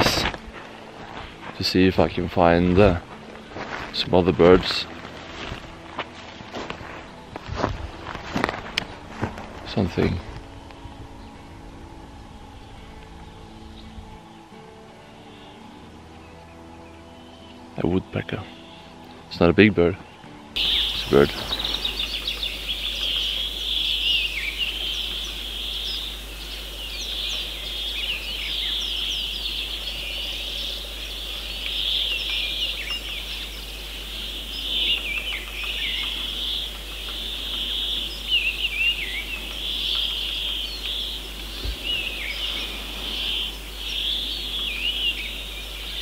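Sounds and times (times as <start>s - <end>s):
small birds chirping: 6.5s - 46.0s.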